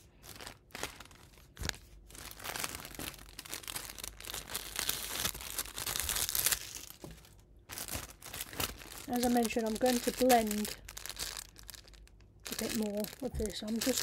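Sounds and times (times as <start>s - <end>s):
plastic packet crinkling: 0.0s - 14.0s.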